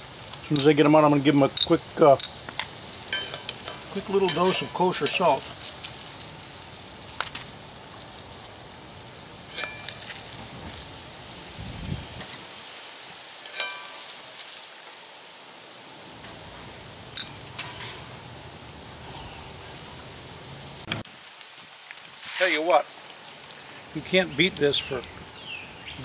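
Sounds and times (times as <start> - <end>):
onion rings sizzling in oil: 0.0 - 26.0.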